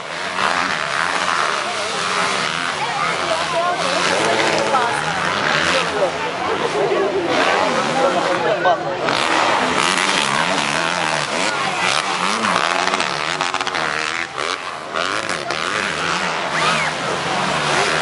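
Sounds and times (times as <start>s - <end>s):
motorbike engine revving: 0.0s - 8.4s, 9.0s - 18.0s.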